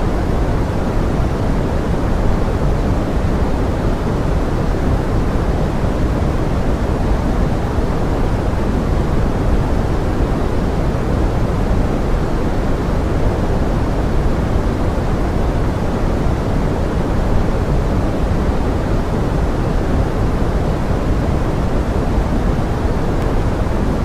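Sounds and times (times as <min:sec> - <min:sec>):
pink noise: 0:00.0 - 0:24.0
rain hiss: 0:00.0 - 0:24.0.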